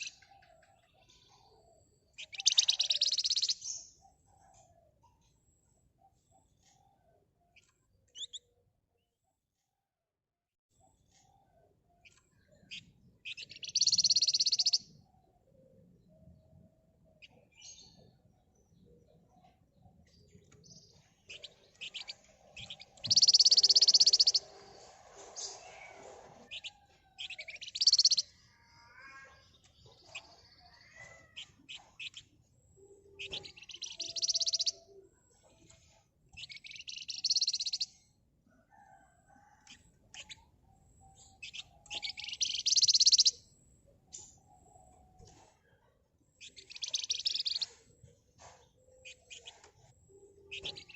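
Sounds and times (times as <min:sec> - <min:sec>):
bird chirps and calls: 0:00.0 - 0:05.4, 0:06.0 - 0:08.6, 0:10.8 - 0:38.2, 0:38.9 - 0:50.9.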